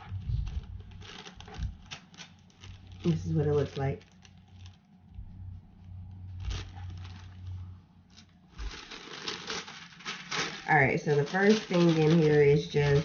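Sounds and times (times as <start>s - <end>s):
packaging rustle: 0.0s - 5.2s, 5.8s - 13.0s
low hum: 0.0s - 13.0s.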